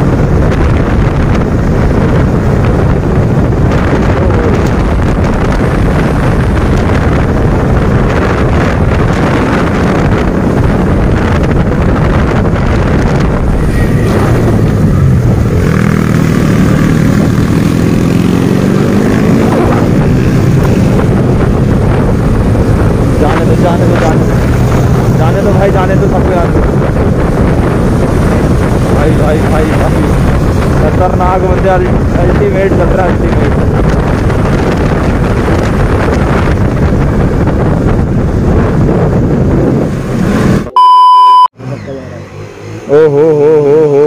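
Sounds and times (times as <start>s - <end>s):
wind buffeting microphone: 0.0s - 40.7s
motorcycle engine: 0.0s - 40.8s.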